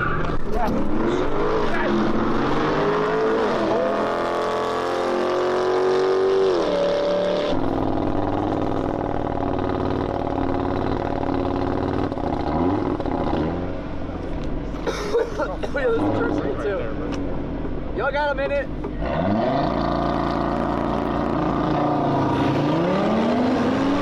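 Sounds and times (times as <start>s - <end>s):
car engine revving: 0.0s - 14.8s, 18.6s - 24.0s.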